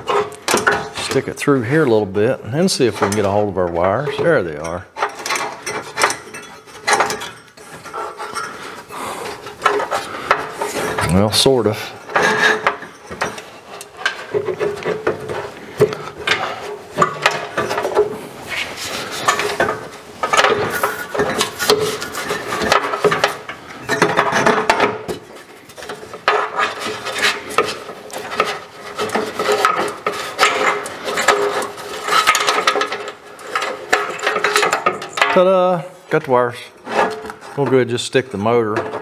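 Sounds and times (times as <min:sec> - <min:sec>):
hands scraping in metal housing: 0:00.0 - 0:39.0.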